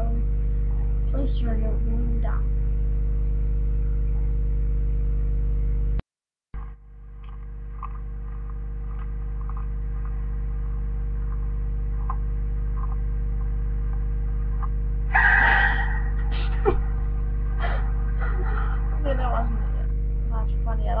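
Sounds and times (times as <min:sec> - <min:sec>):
electrical mains hum: 0:00.0 - 0:06.0, 0:06.6 - 0:21.0.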